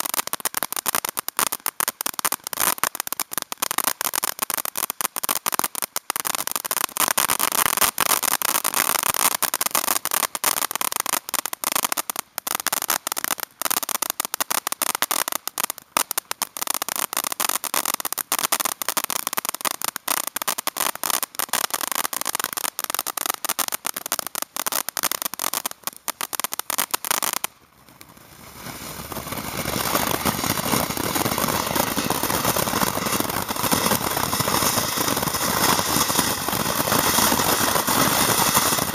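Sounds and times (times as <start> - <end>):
firework fountain crackling: 0.0 - 38.9
firework fountain hissing: 0.0 - 38.9.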